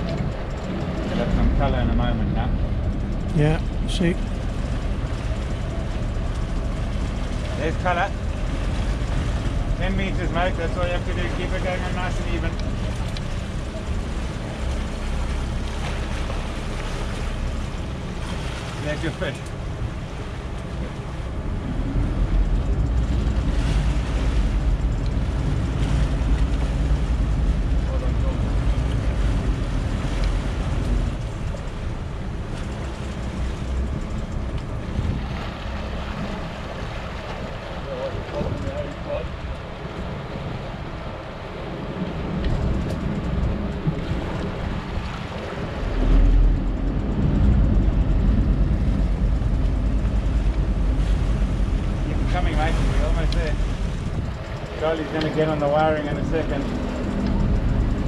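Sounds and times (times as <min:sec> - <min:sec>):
boat engine rumbling: 0:00.0 - 0:58.0
water churning: 0:00.0 - 0:58.0.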